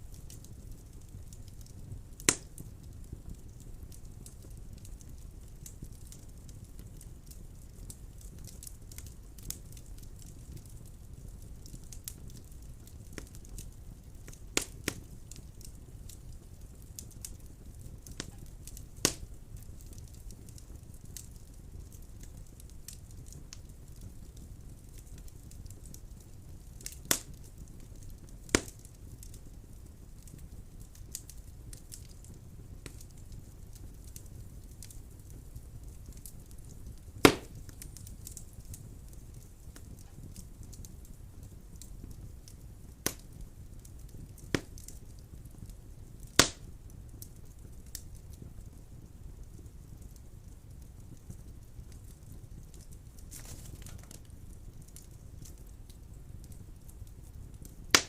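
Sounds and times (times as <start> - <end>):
burning wood popping: 0.0 - 58.0
fire flames rustling: 0.0 - 58.0
small crackles of fire: 0.0 - 58.0.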